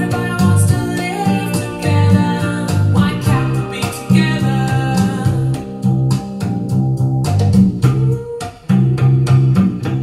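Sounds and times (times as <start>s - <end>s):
band music over loudspeakers: 0.0s - 10.0s
bass line of repeated notes: 0.0s - 10.0s.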